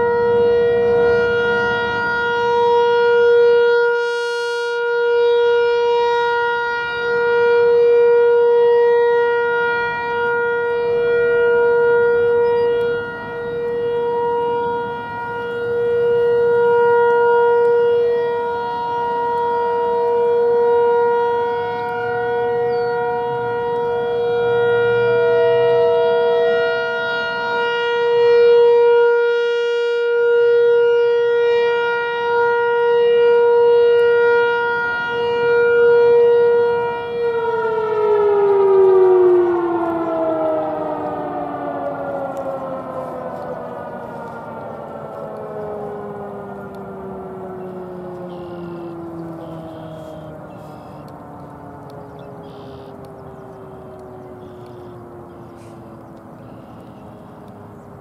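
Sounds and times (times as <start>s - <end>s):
rotating warning siren: 0.0s - 58.0s.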